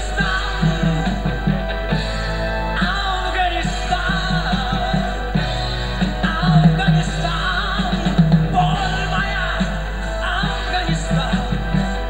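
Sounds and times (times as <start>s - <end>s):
drums: 0.0s - 12.0s
electric guitar lead line: 0.0s - 12.0s.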